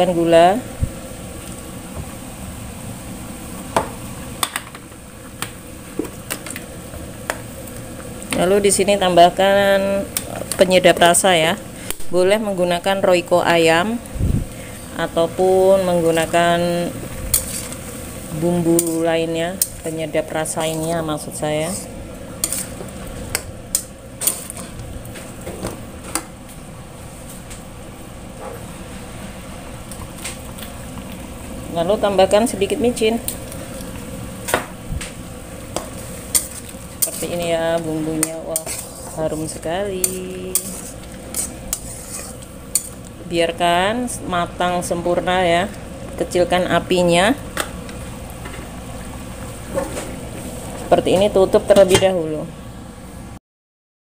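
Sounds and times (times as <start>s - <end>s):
wok simmering hiss: 0.0s - 53.4s.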